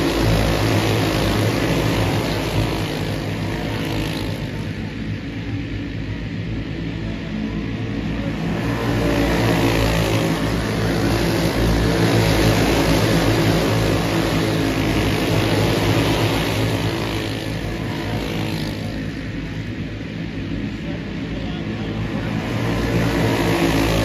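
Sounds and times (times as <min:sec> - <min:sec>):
race car engines passing: 0:00.0 - 0:24.0.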